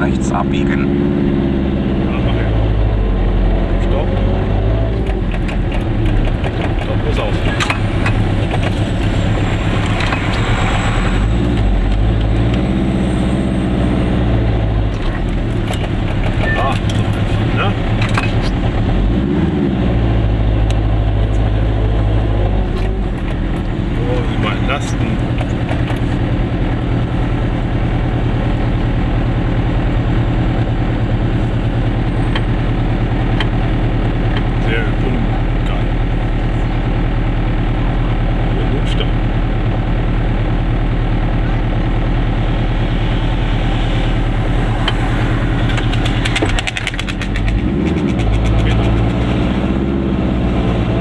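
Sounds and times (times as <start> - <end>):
road noise: 0.0 - 51.0
small car engine running: 2.1 - 14.0, 20.6 - 51.0.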